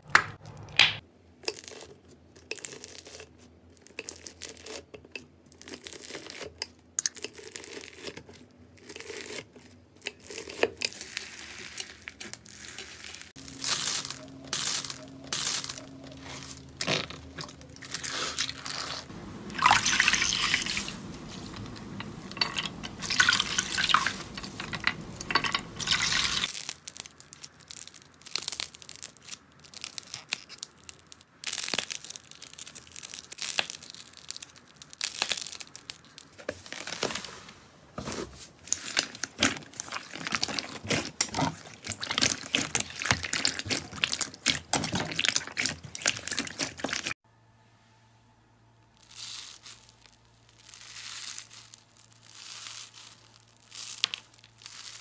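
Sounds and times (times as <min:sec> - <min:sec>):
slime crackling and squishing: 0:01.4 - 0:37.4, 0:38.1 - 0:47.2, 0:49.0 - 0:55.0.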